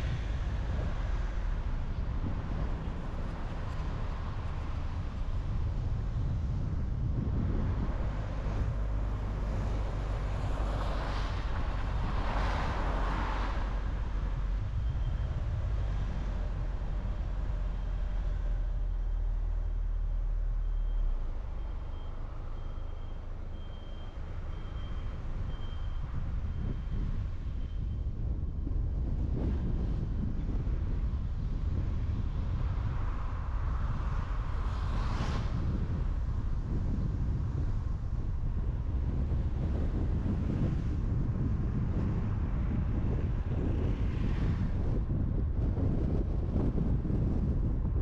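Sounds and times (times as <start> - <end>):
car tyres and engine rumble: 0.0 - 48.0.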